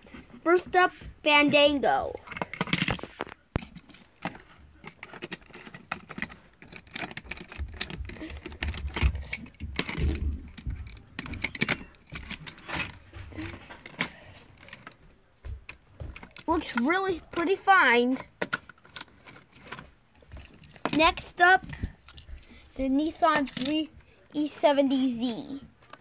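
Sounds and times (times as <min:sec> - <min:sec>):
plastic toy clicks and rattles: 0:01.6 - 0:15.0, 0:15.7 - 0:25.1.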